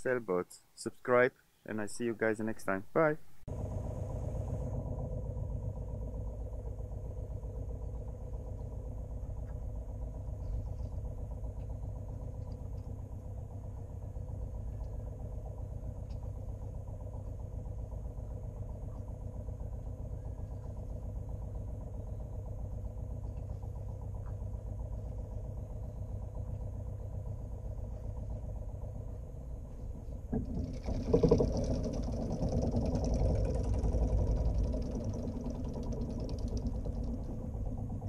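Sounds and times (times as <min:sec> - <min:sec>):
boat engine running: 0:03.0 - 0:38.0.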